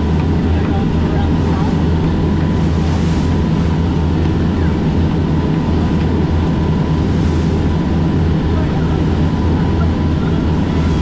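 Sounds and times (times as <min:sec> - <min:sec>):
faint engine whine: 0:00.0 - 0:11.0
ferry engines rumbling: 0:00.0 - 0:11.0
water churning: 0:00.0 - 0:11.0.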